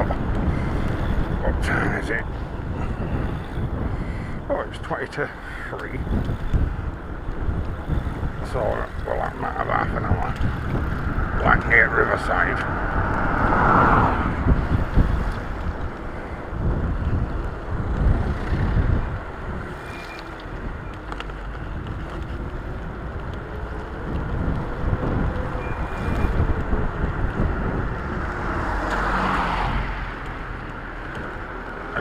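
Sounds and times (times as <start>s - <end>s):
road and traffic rumble: 0.0s - 32.0s
wind buffeting microphone: 0.0s - 32.0s.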